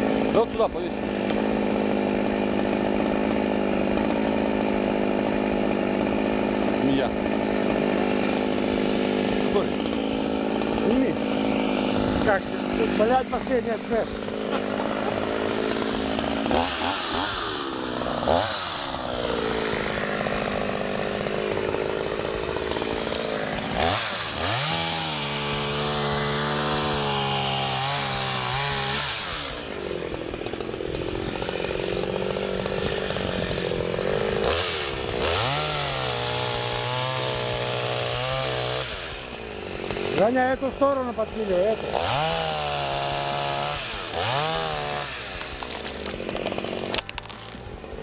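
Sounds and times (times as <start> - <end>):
chainsaw cutting wood: 0.0 - 48.0.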